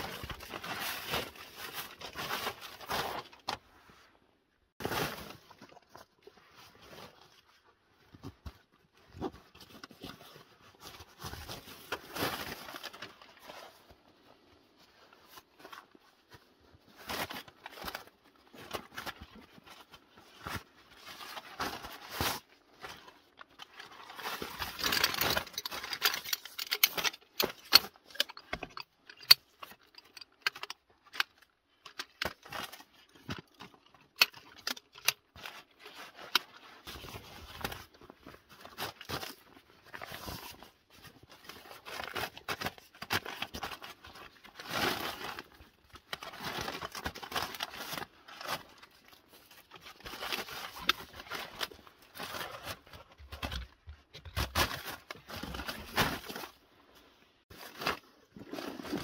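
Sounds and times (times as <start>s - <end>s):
rustling of nylon gear: 4.8s - 59.0s.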